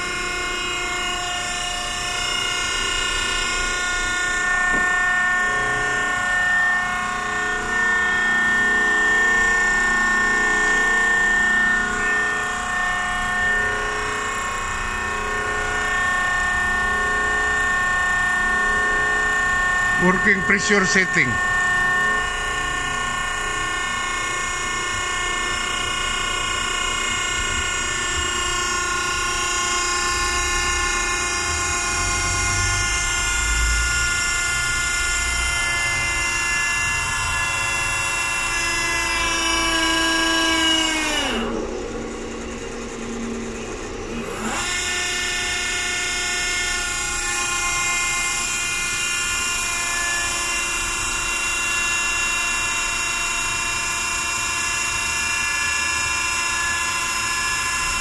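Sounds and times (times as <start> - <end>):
hydraulic pump whine: 0.0 - 58.0.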